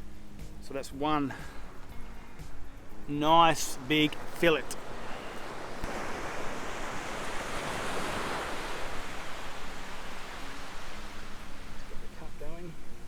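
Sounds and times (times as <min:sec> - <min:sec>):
surf washing up beach: 0:00.0 - 0:13.0.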